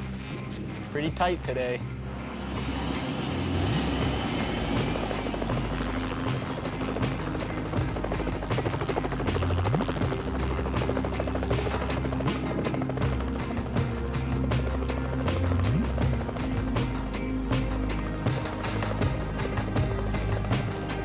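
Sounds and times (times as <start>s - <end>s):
helicopter rotor chopping: 0.4s - 21.0s.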